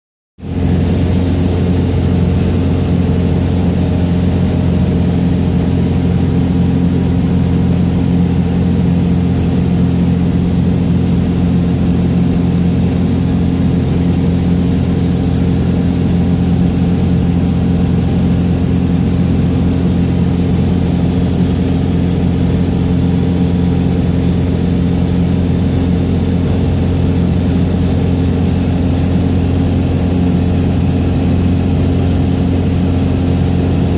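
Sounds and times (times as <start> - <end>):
aircraft engine and propeller droning: 0.4 - 33.9.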